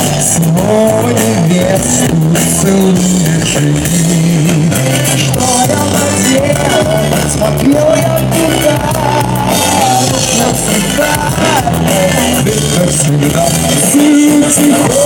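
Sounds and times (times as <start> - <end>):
steady drum beat: 0.0 - 15.0
stepping bass line: 0.0 - 15.0.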